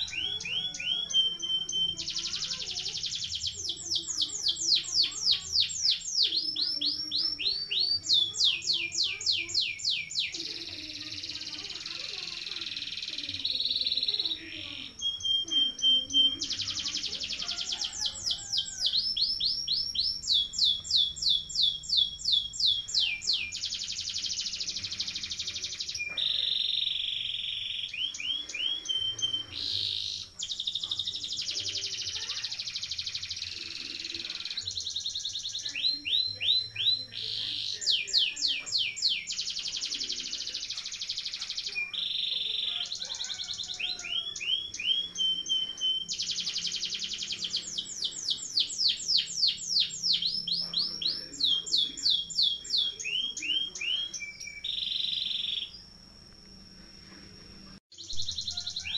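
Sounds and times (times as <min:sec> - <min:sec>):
canary singing: 0:00.0 - 0:58.9.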